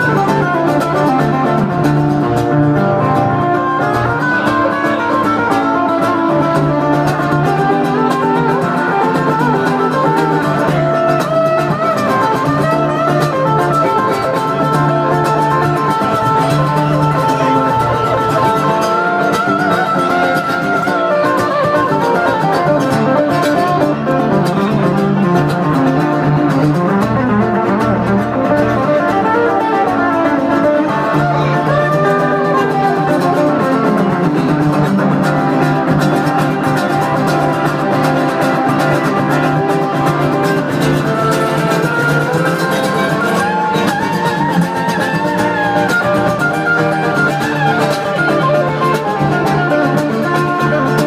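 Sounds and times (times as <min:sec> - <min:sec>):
acoustic guitar strummed chords: 0:00.0 - 0:51.0
electric guitar melody: 0:00.0 - 0:51.0.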